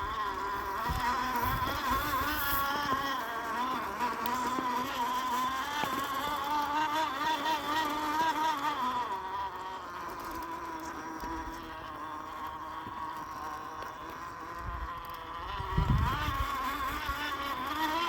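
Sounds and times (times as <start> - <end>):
electric motor and gears whining: 0.0 - 18.0.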